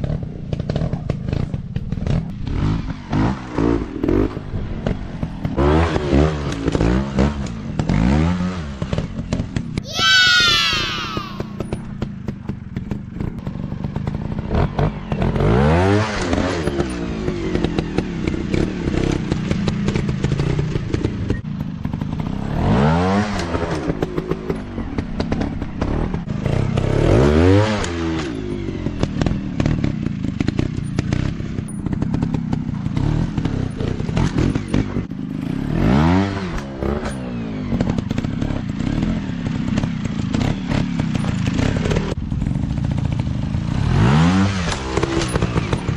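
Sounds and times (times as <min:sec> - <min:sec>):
engine clatter and knocks: 0:00.0 - 0:09.8, 0:11.6 - 0:35.9, 0:36.5 - 0:43.9, 0:44.5 - 0:45.9
dirt bike engines revving: 0:00.0 - 0:45.9.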